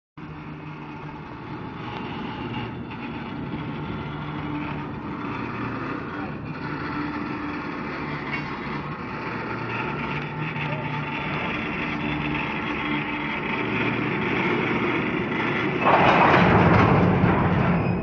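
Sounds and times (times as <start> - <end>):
diesel locomotive engine running: 0.2 - 18.0.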